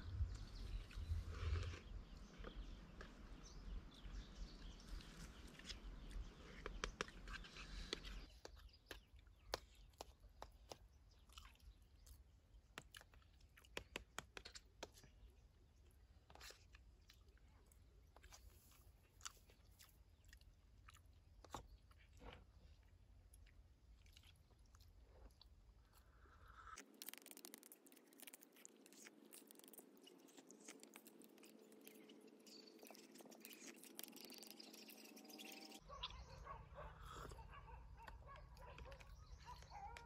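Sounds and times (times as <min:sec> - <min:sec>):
quiet chewing: 0:00.0 - 0:40.0.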